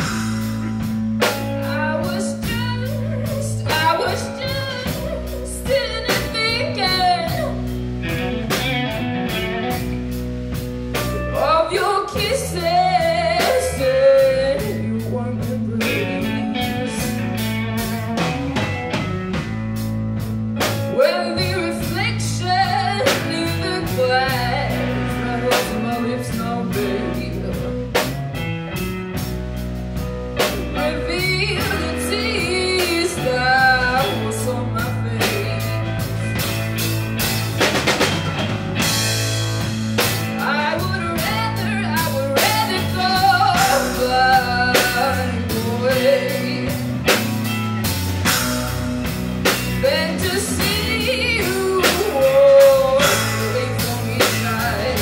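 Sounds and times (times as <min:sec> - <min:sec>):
drum kit beat: 0:00.0 - 0:55.0
electric guitar lead: 0:00.0 - 0:55.0
rhythm guitar: 0:00.0 - 0:55.0.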